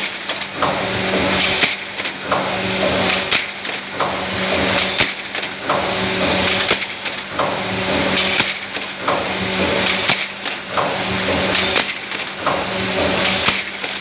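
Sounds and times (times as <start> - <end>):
packing machine clicks: 0.0 - 14.0
packing machine hiss: 0.0 - 14.0
machine hum: 0.4 - 14.0.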